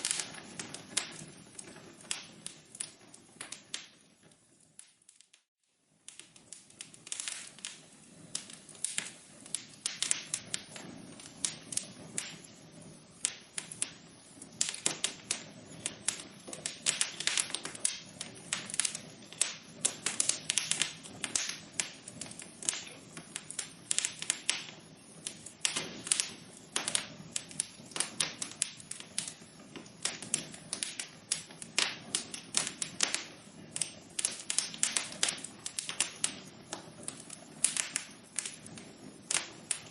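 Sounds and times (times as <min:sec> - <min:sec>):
soft hiss: 0:00.0 - 0:39.9
wood fire crackling and popping: 0:00.0 - 0:39.9.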